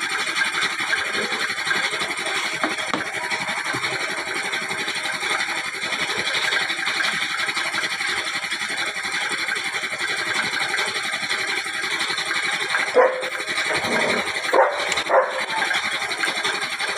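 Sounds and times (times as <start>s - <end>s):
power tool rattling: 0.0s - 16.9s.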